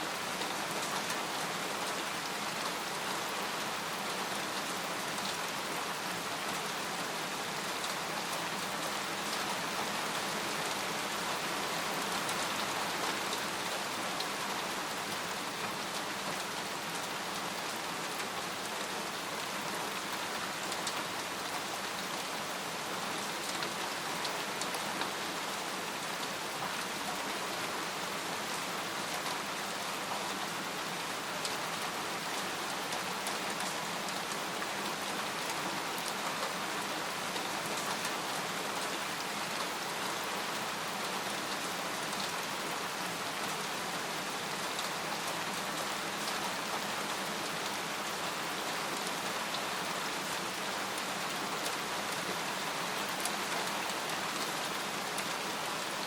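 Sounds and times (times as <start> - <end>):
rain on a tent: 0.0 - 56.0.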